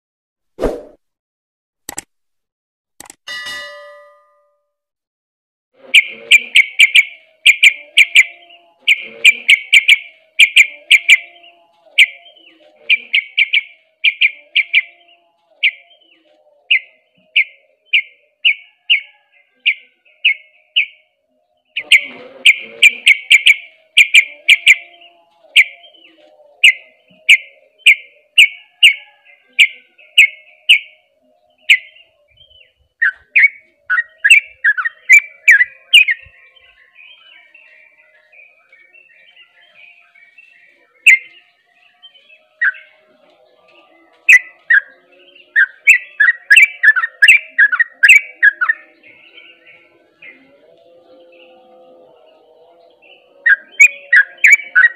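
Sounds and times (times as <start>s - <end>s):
bird singing rapid notes: 5.8s - 54.9s
bird chirps rising and falling: 6.0s - 21.0s, 21.6s - 54.9s.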